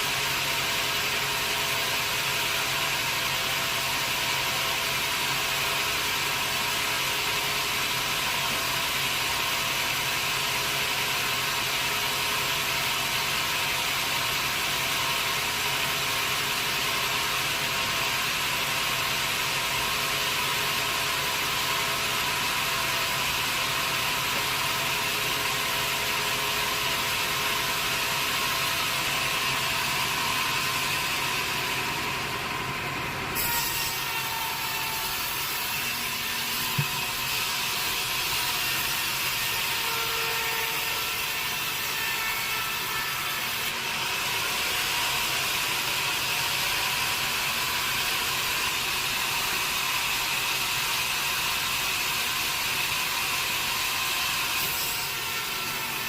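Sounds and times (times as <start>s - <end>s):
sawmill machinery hum: 0.0s - 56.0s.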